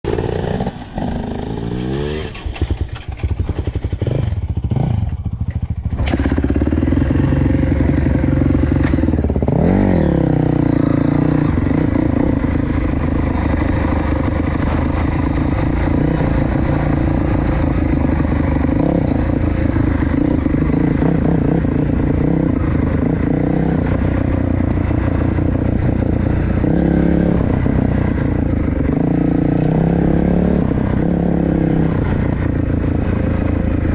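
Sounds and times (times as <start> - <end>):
dirt bike engine revving: 0.1 - 5.1, 5.9 - 33.9.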